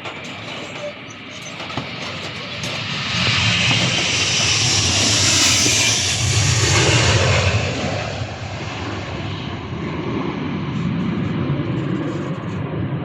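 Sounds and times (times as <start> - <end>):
airliner engines passing: 0.0 - 13.0.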